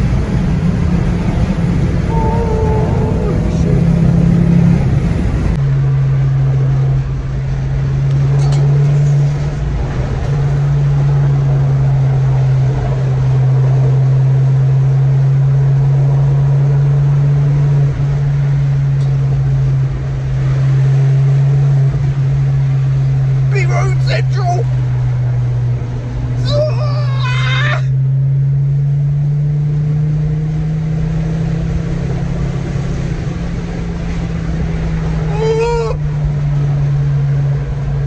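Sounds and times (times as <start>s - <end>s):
car exhaust droning: 0.0s - 38.0s
road noise: 0.0s - 38.0s.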